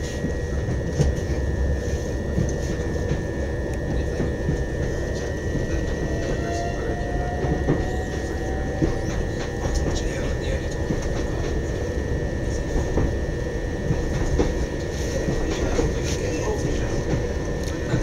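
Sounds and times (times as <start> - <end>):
constant high whine: 0.0 - 18.0
train running gear rumble: 0.0 - 18.0.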